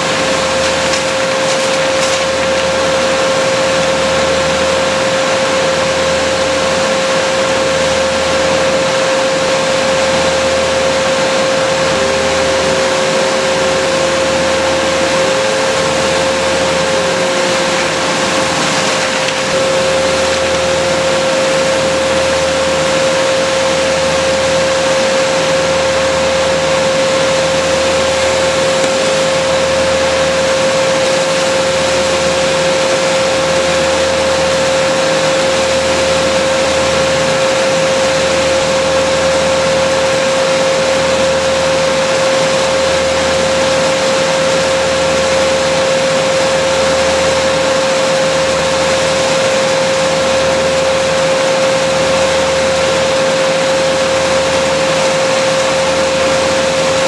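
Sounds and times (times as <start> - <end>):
small engine machine whining: 0.0 - 57.0.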